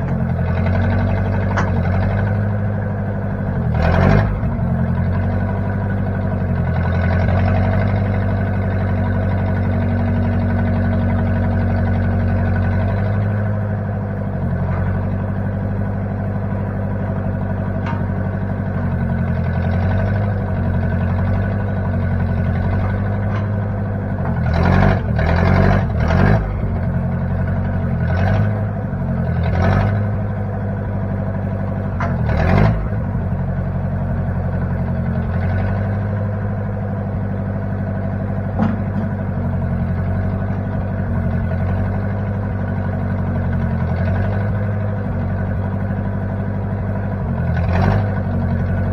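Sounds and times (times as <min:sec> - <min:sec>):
backhoe engine running: 0:00.0 - 0:48.9.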